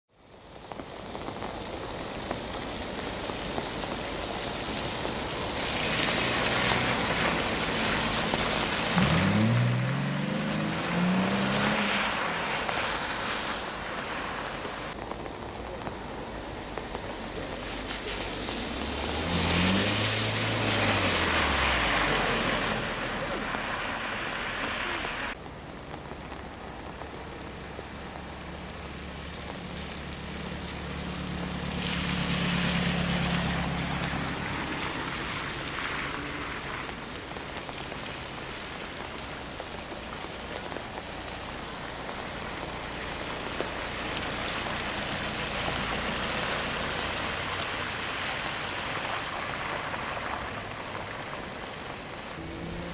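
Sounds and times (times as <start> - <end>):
cars driving past on wet road: 0.1 - 52.9
rain pattering: 0.1 - 52.9.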